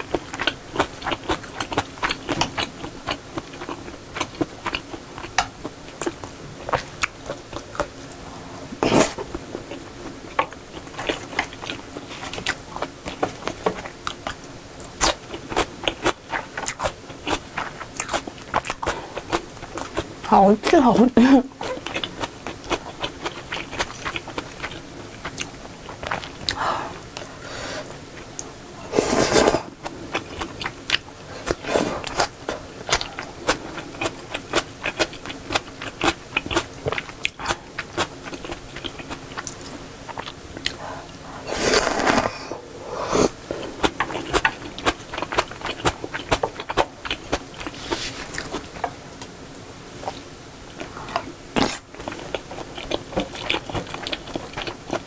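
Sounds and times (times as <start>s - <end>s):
chewing food: 0.0s - 8.2s, 8.8s - 20.3s, 21.5s - 27.3s, 29.8s - 42.2s, 43.5s - 49.3s, 50.0s - 55.0s.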